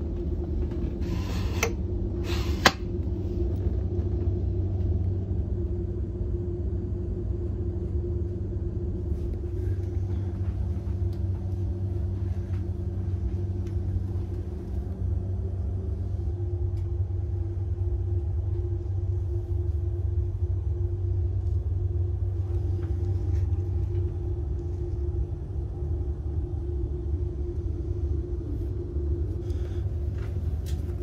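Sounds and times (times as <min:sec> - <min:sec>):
train coach rumble and hum: 0:00.0 - 0:31.0.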